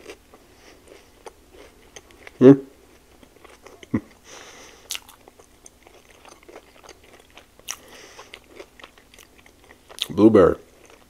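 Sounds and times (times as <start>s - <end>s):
person chewing with mouth clicks: 0.0s - 11.0s.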